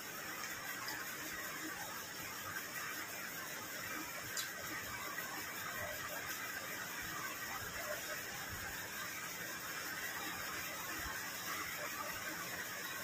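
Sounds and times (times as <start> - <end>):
room background hiss: 0.0 - 13.0.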